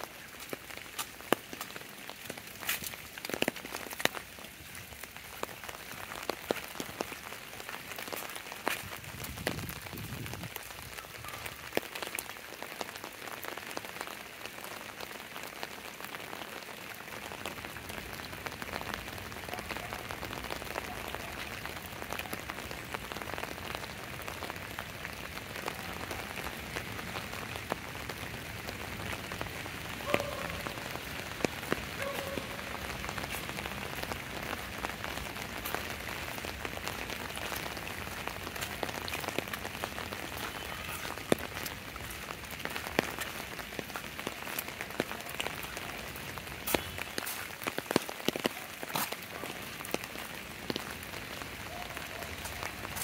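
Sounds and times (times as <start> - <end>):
close raindrops ticking: 0.0 - 53.0
steady rain falling: 0.0 - 53.0.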